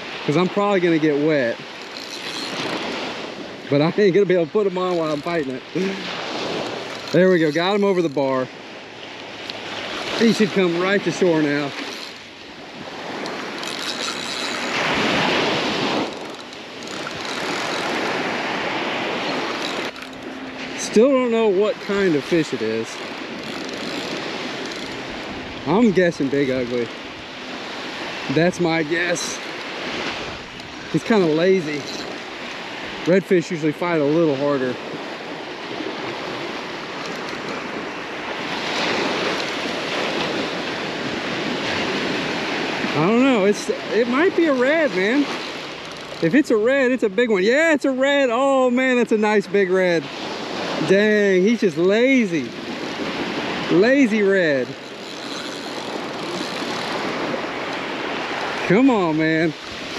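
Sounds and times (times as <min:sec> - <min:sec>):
waves washing up a beach: 0:00.0 - 0:59.9.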